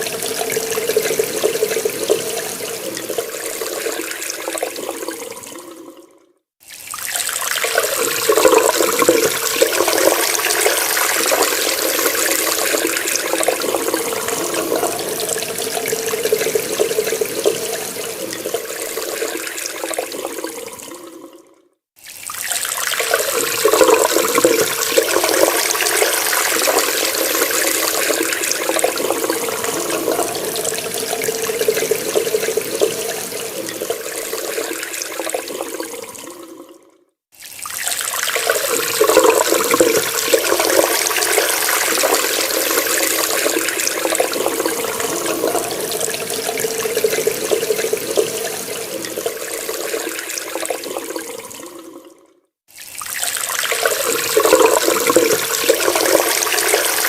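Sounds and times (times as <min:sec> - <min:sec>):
tap water running into sink: 0:06.6 - 0:21.3, 0:22.0 - 0:36.7, 0:37.4 - 0:52.2, 0:52.8 - 0:57.0.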